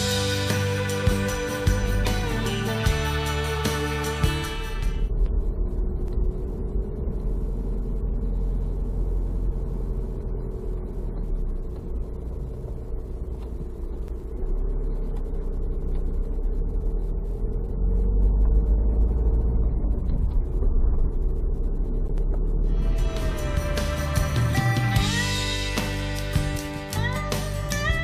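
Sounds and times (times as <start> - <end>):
road noise: 0.0 - 27.3
car engine rumble: 0.0 - 28.0.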